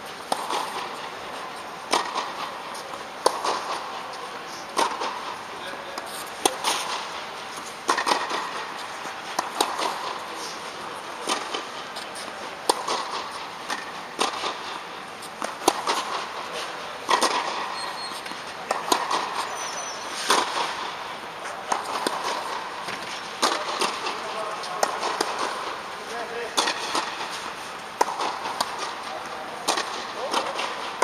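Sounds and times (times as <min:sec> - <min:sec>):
tennis ball struck by rackets: 0:00.3 - 0:01.1, 0:01.8 - 0:03.9, 0:04.7 - 0:10.3, 0:11.2 - 0:16.4, 0:17.0 - 0:17.7, 0:18.6 - 0:19.4, 0:20.2 - 0:21.0, 0:21.6 - 0:31.0.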